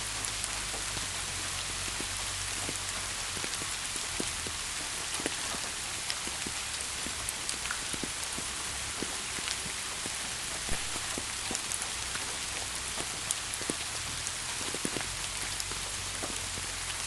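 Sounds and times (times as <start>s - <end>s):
raindrops pattering on a surface: 0.0s - 17.0s
steady rain hiss: 0.0s - 17.0s.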